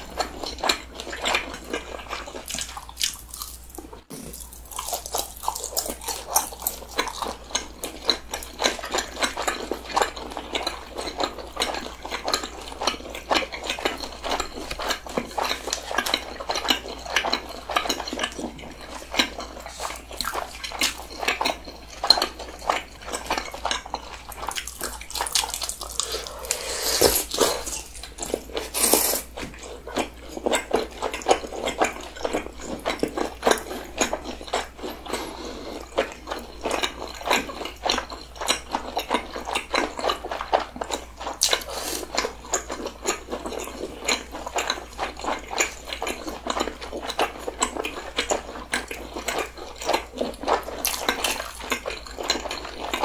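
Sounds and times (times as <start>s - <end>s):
wet chewing sounds: 0.0s - 53.0s.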